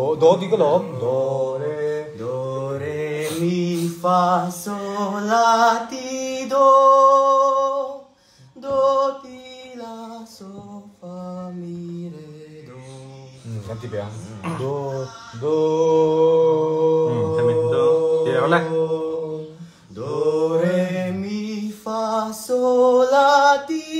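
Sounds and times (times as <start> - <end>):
man singing unaccompanied: 0.0 - 23.9.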